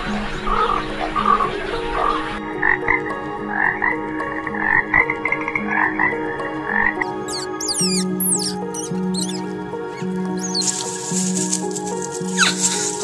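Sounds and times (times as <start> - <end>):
frogs croaking: 0.0 - 10.7.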